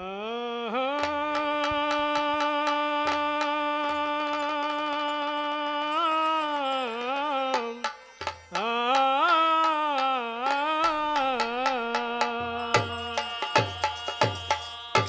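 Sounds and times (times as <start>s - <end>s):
man singing a long note: 0.0s - 7.9s, 8.5s - 15.0s.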